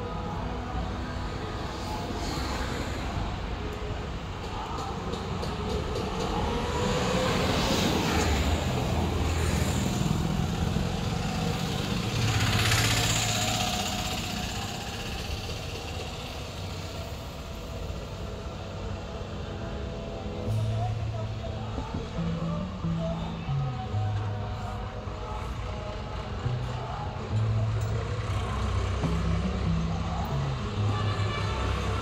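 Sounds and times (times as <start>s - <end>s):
motor vehicle hum: 0.0s - 32.0s.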